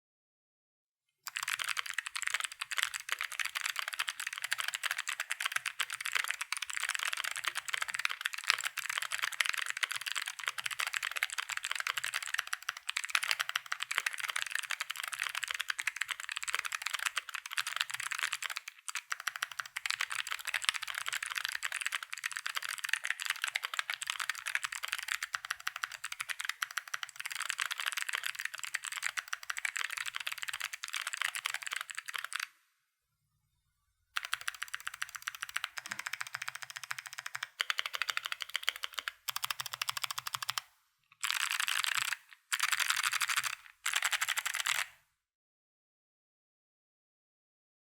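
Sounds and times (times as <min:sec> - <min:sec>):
fast typing on mechanical keyboard: 0:01.3 - 0:32.5, 0:34.2 - 0:45.0.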